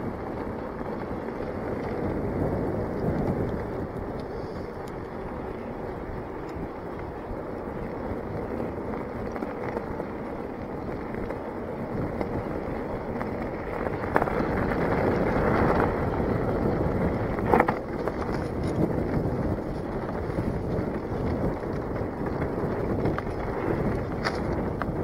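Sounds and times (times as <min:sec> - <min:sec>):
bike tyres rolling on gravel: 0:00.0 - 0:25.0
wind rush on microphone: 0:00.0 - 0:25.0.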